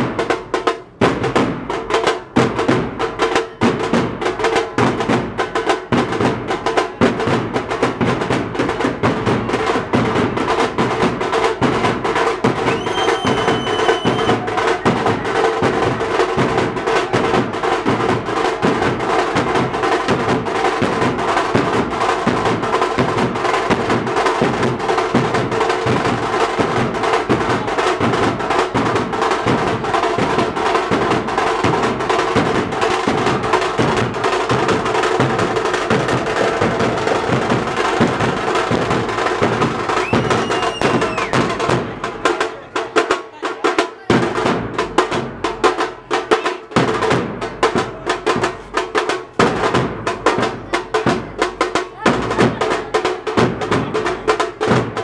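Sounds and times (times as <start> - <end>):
bass drums beating rhythm: 0.0 - 43.0, 44.0 - 55.0
frame drum: 0.0 - 55.0.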